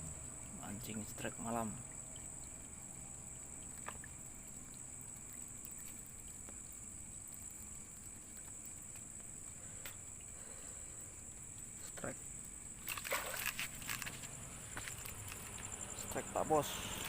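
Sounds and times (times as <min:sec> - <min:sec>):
crickets buzzing: 0:00.0 - 0:17.0.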